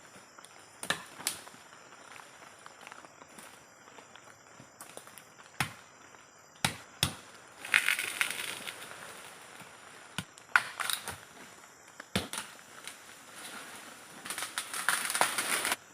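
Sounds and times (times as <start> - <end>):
branches and leaves crunching: 0.0 - 15.8.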